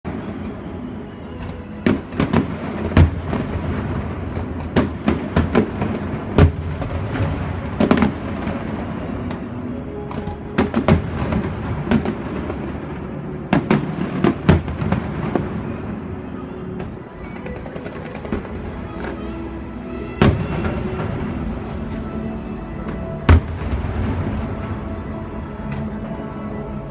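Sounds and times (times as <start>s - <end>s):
fireworks banging: 0.1s - 26.1s.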